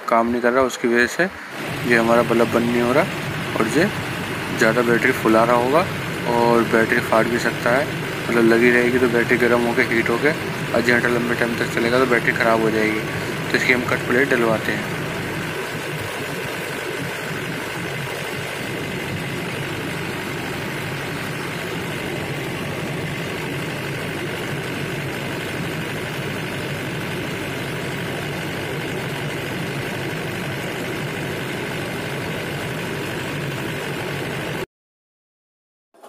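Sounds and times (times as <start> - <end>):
diesel generator engine running: 0.0 - 34.6
high alternator whine: 0.0 - 34.6.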